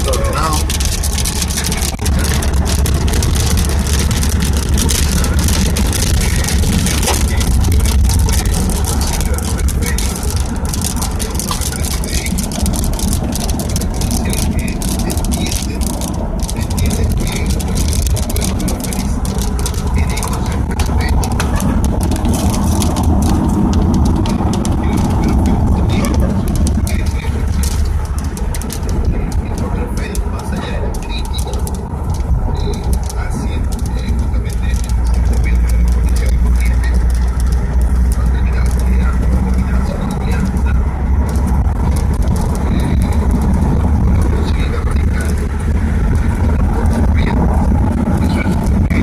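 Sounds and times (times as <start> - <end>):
heavy low rumble: 0.0 - 49.0
quick sharp ticks and clicks: 0.0 - 49.0
wind buffeting microphone: 0.0 - 49.0.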